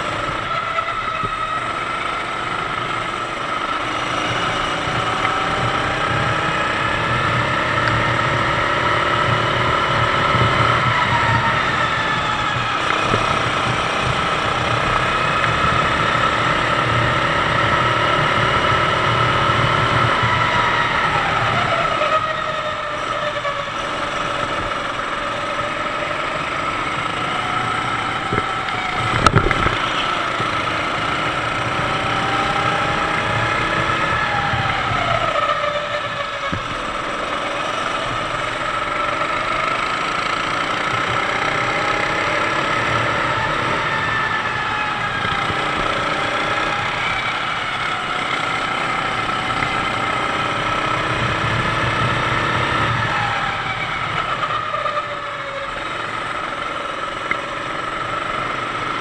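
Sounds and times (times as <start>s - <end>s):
kart engine running hard: 0.0s - 59.0s
wind and road rush: 0.0s - 59.0s.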